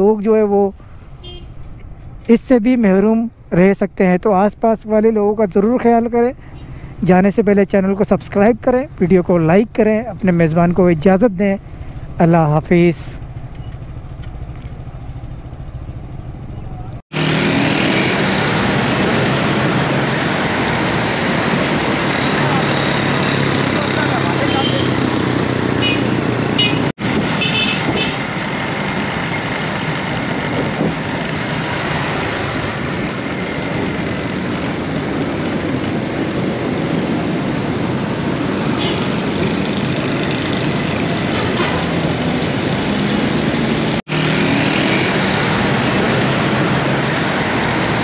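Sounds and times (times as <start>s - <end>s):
motorcycle engines: 0.0s - 48.0s
road and wind noise: 0.0s - 48.0s.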